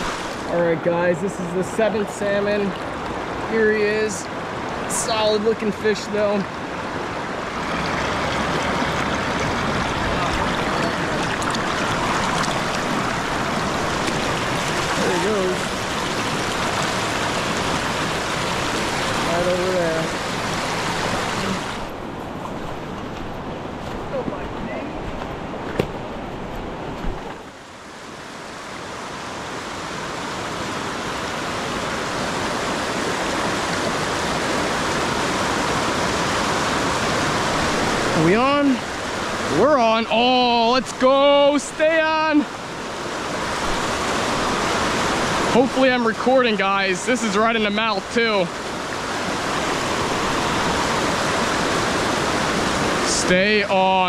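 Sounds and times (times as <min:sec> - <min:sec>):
river current rushing: 0:00.0 - 0:54.0.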